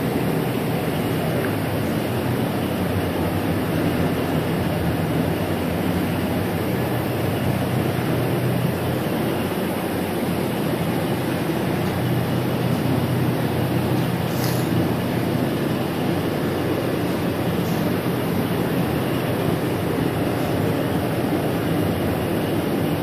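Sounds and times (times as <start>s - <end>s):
ventilation fans rushing air: 0.0s - 23.0s.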